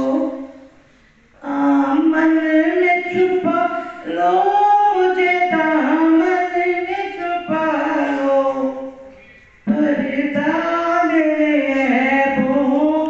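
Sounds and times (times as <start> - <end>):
woman singing unaccompanied: 0.0 - 0.7, 1.4 - 13.0.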